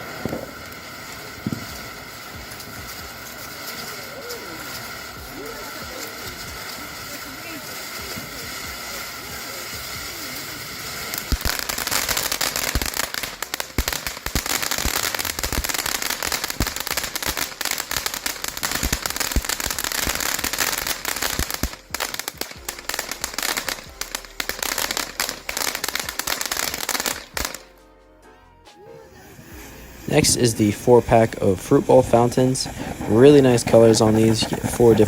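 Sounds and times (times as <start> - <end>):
firework crackling pops: 0.0 - 27.9, 29.0 - 35.0
firework fountain hissing: 0.0 - 27.9, 28.8 - 35.0.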